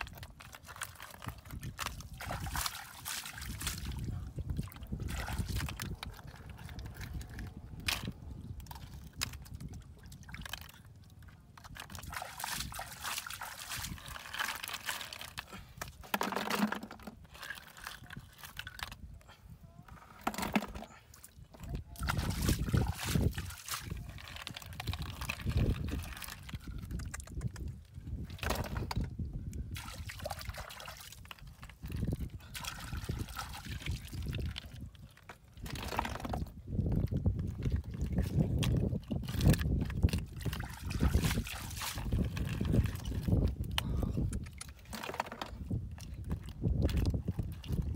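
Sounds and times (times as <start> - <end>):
squelching mud and sloshing water: 0.0 - 47.9.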